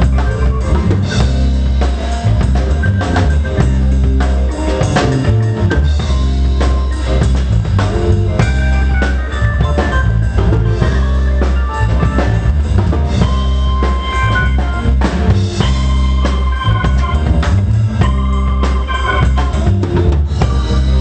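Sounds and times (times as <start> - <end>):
bass drum and snare beat: 0.0 - 21.0
deep bass notes: 0.0 - 21.0
held keyboard chords: 0.0 - 21.0.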